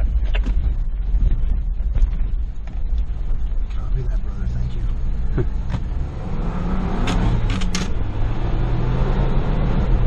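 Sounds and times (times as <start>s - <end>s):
tyres rumbling on dirt trail: 0.0s - 8.2s
car engine running: 0.0s - 10.0s.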